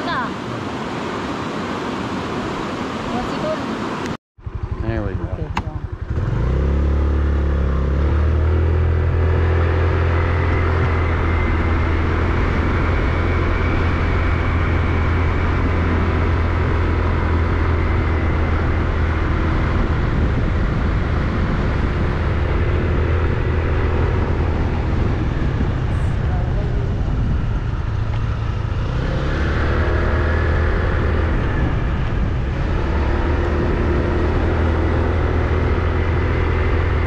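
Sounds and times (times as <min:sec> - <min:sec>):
motorcycle engine revving: 0:04.4 - 0:37.0.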